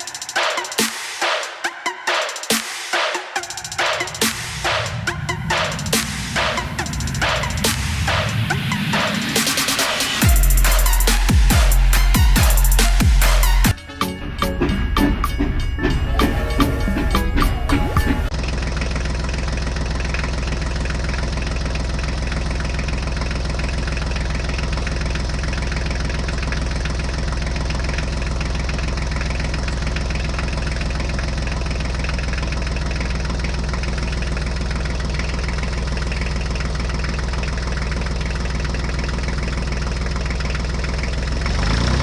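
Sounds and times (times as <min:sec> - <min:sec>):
diesel engine idling: 0:02.9 - 0:42.0.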